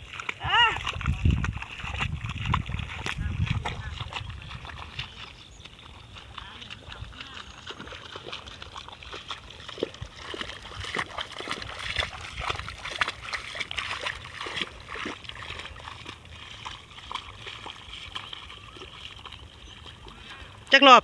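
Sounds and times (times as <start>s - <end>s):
hoe splashing through mud water: 0.0s - 21.0s.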